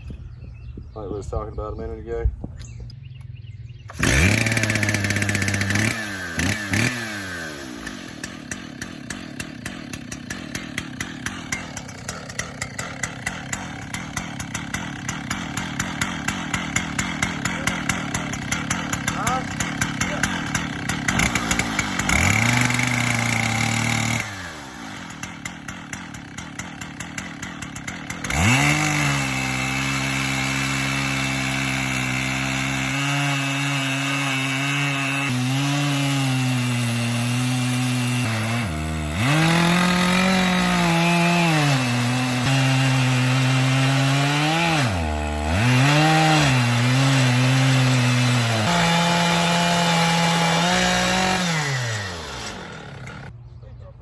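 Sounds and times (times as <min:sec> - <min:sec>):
chainsaw cutting through log: 0:03.9 - 0:53.4.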